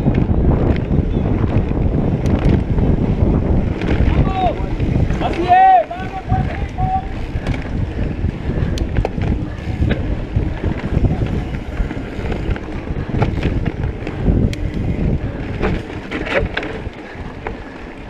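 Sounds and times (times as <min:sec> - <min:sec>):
bike clicks and rattles: 0:00.0 - 0:18.0
wind buffeting the microphone: 0:00.0 - 0:18.0.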